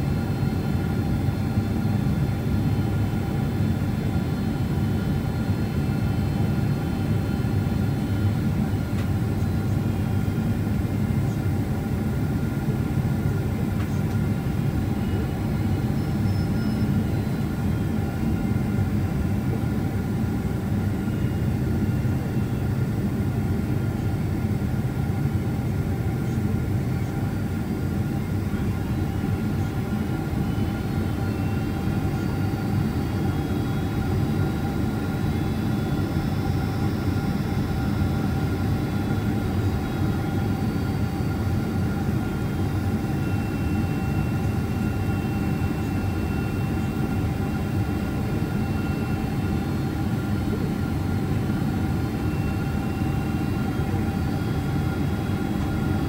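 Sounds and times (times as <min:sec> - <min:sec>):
jet engine and airflow rumble: 0:00.0 - 0:56.0.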